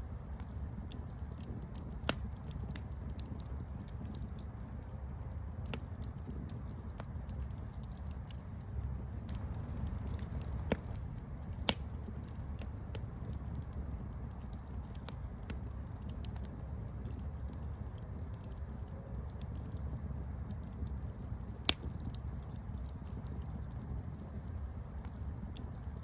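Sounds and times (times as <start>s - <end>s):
campfire crackling: 0.0s - 26.0s
sharp pops and snaps of fire: 0.0s - 26.0s.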